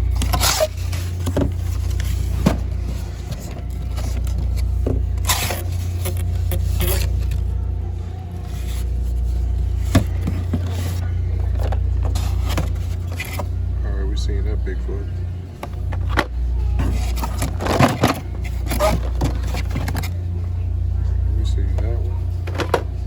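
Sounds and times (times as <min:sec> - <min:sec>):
toy boxes being handled: 0:00.0 - 0:13.7, 0:15.6 - 0:20.5, 0:21.6 - 0:23.0
car engine idling: 0:00.0 - 0:23.0.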